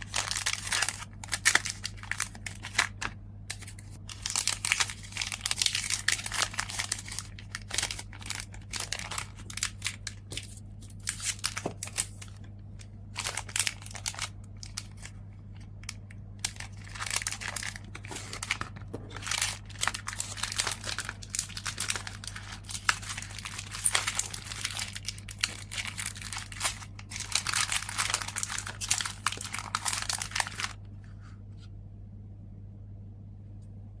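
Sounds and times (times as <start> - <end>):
packaging crinkling and rustling: 0.0 - 30.9
steady low hum: 0.0 - 34.0.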